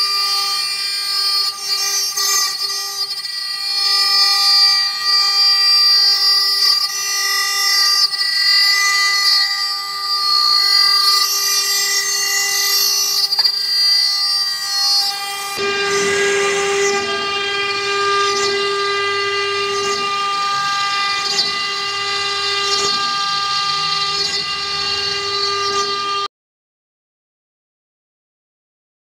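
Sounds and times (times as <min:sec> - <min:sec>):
cnc router spindle whining: 0:00.0 - 0:26.3.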